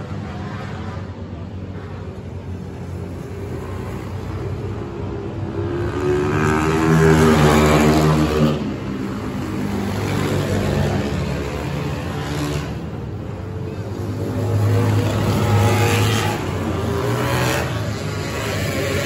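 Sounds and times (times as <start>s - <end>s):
racing motorcycles passing: 0.0s - 19.0s.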